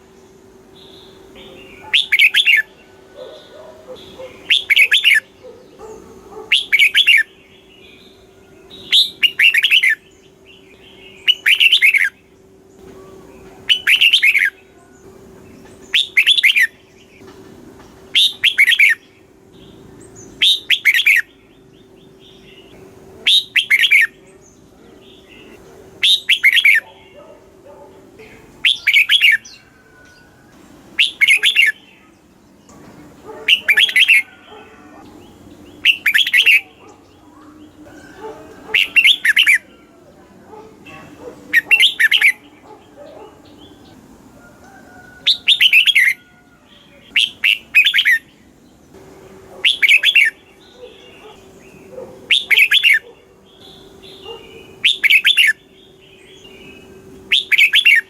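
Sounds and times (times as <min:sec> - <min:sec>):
bulbul singing: 0:00.0 - 0:17.3, 0:18.0 - 0:58.0.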